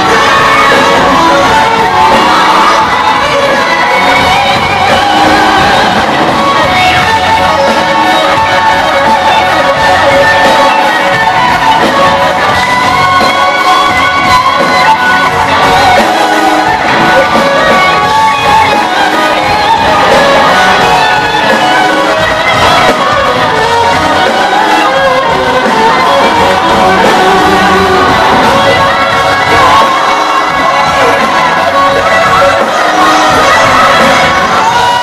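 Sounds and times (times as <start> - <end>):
crowd shouting: 0.0 - 35.0
live band with electric guitar: 0.0 - 35.0
person singing: 0.0 - 35.0.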